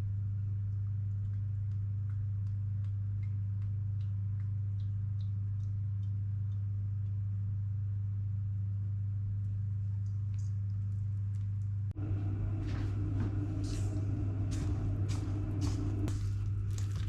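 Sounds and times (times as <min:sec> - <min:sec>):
appliance electrical hum: 0:00.0 - 0:17.0.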